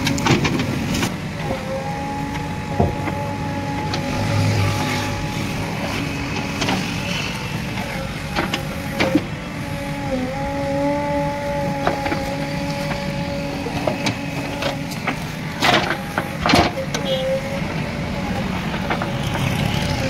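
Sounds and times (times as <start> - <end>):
backhoe diesel engine and hydraulics: 0.0 - 20.0.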